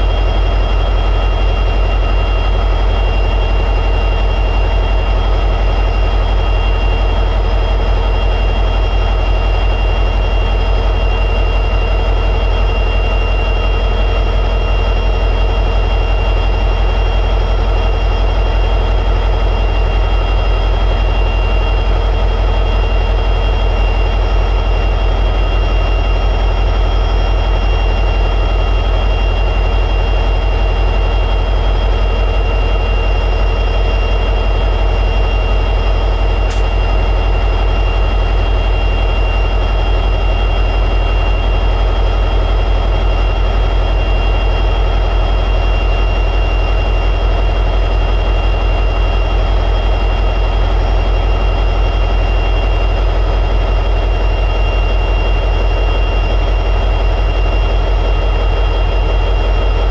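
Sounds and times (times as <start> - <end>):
high whine: 0.0 - 59.9.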